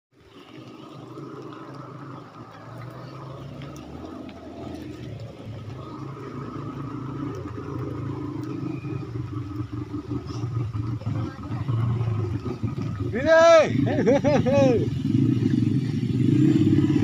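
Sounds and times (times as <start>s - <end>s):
small engine running: 0.2s - 17.0s.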